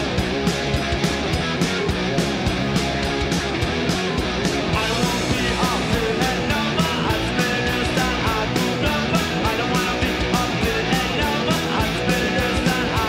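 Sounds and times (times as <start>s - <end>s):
electric guitars: 0.0s - 13.0s
fast punk rock music: 0.0s - 13.0s
fast steady drumbeat: 0.0s - 13.0s.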